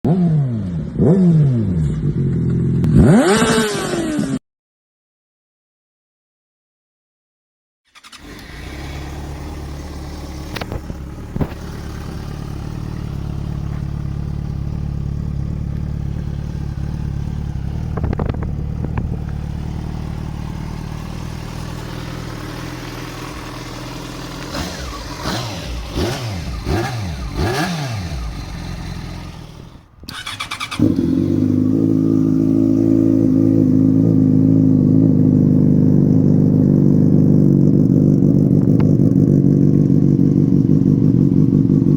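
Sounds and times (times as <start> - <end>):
motorcycle engine revving: 0.1 - 4.4, 7.9 - 41.9.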